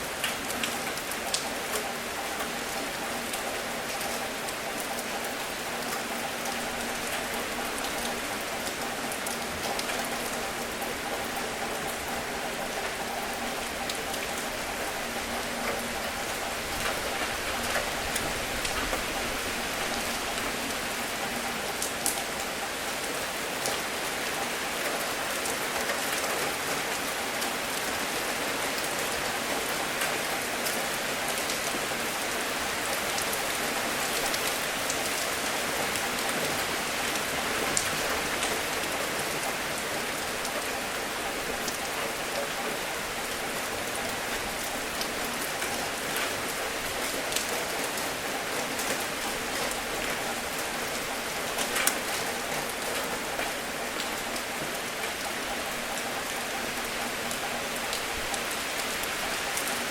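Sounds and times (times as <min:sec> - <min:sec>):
steady gentle rain: 0:00.0 - 0:59.9.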